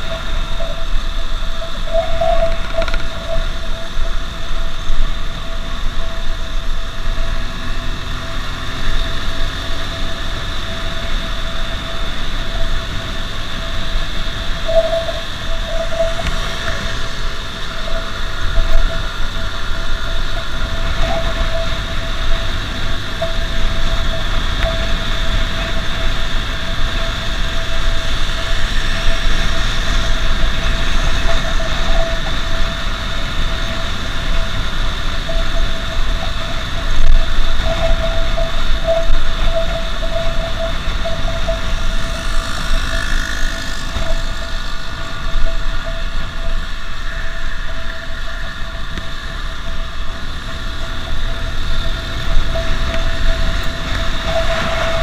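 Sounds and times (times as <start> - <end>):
motorcycle engine whine: 0.0 - 55.0
wind rumble on microphone: 0.0 - 55.0.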